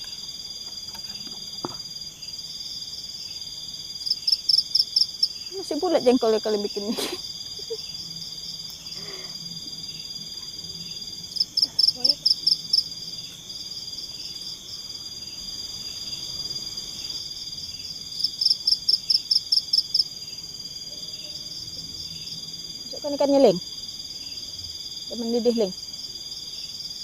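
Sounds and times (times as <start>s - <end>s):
night insects chorus: 0.0s - 27.0s.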